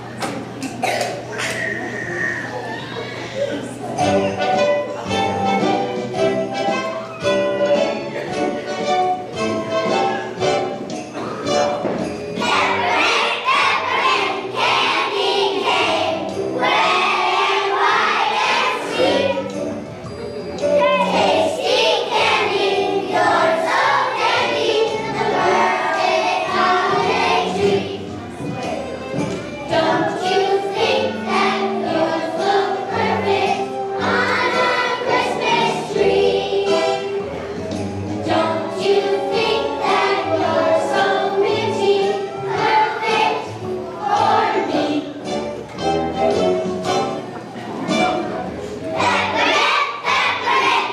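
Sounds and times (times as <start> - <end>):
children's choir singing: 0.8 - 50.9
musical accompaniment: 3.5 - 50.9.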